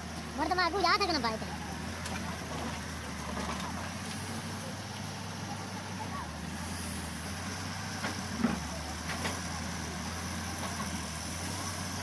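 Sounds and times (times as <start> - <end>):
heavy diesel machinery drone: 0.0 - 12.0.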